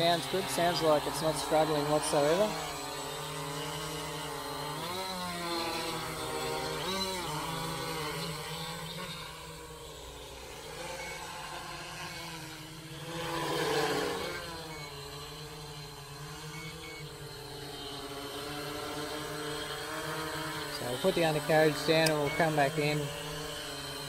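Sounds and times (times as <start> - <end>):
quadcopter propellers whining: 0.0 - 24.0.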